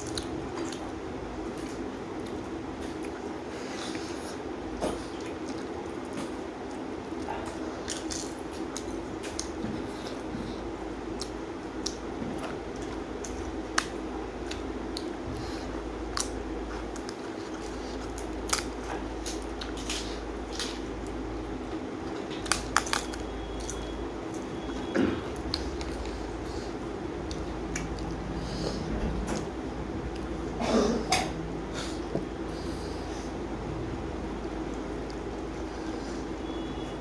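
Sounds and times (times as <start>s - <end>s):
chewing and crunching: 0.0s - 30.6s
low background hum: 0.0s - 37.0s.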